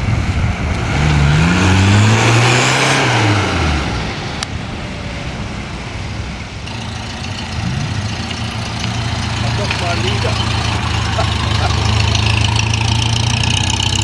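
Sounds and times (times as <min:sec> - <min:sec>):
car engine driving past: 0:00.7 - 0:14.0.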